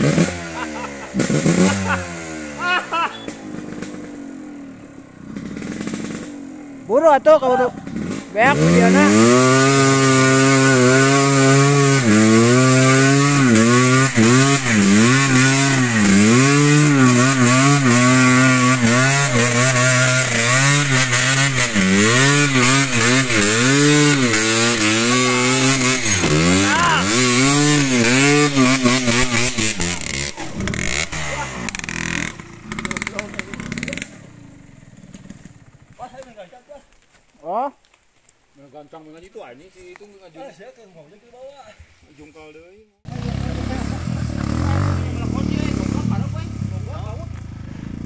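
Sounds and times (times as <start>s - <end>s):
motorcycle engine revving: 0.0s - 36.3s, 43.0s - 48.0s.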